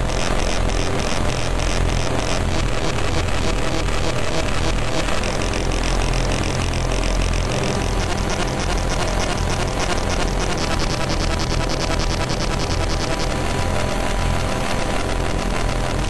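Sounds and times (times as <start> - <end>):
distorted noise wall: 0.0 - 16.0
fast pulsing high buzz: 0.0 - 16.0
low drone: 0.0 - 16.0.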